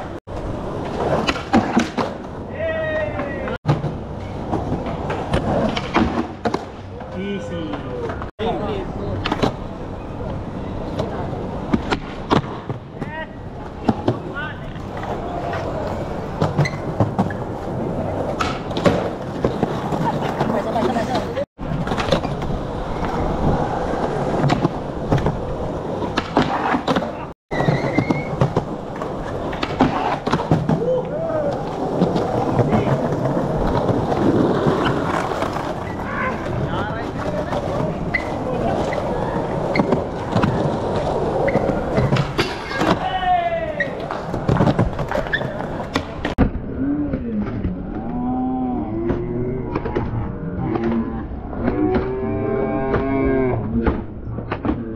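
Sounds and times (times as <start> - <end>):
skateboard wheels rolling on concrete: 0.0 - 54.9
skateboard clacks: 0.1 - 8.3, 9.1 - 46.5.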